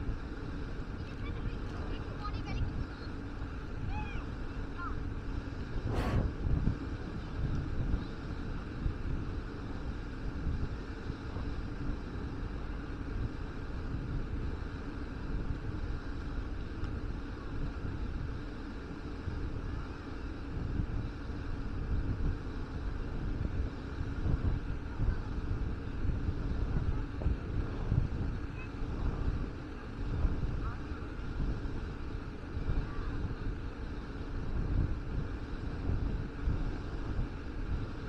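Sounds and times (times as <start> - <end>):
wind buffeting microphone: 0.0 - 18.4, 19.0 - 38.0.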